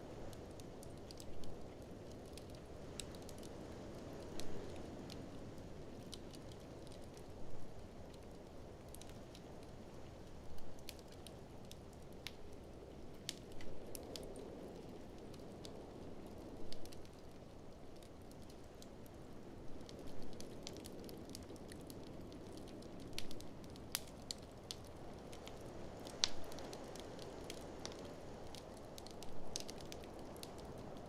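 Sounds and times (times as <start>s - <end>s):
wood fire crackling in fireplace: 0.0s - 31.0s.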